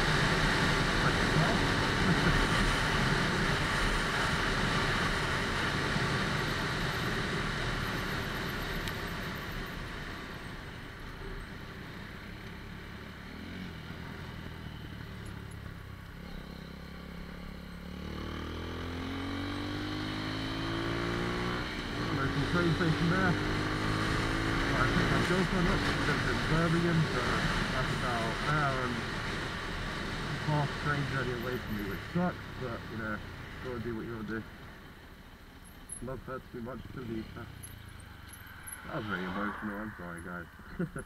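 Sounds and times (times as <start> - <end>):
motorcycle engine: 0.0 - 41.0.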